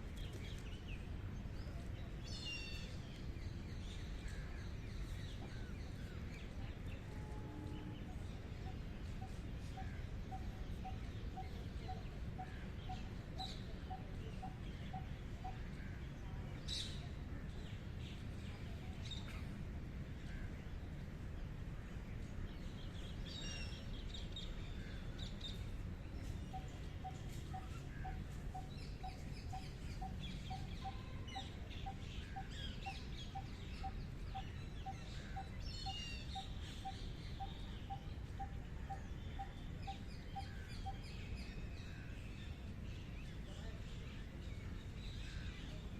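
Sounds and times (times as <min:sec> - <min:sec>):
low outdoor rumble: 0:00.0 - 0:45.9.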